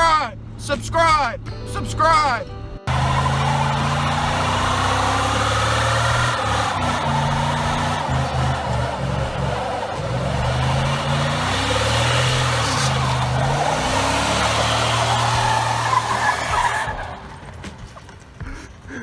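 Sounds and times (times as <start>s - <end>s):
car engine revving: 2.9s - 18.3s.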